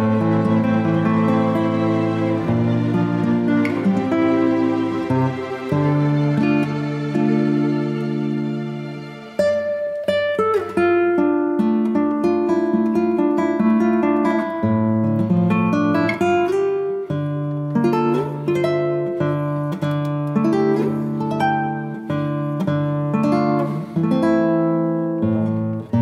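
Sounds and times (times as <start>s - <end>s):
plucked acoustic guitar: 0.0s - 26.0s.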